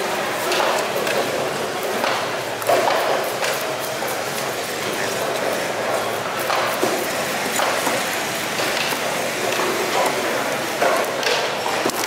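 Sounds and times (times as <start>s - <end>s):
market background noise: 0.0s - 12.0s.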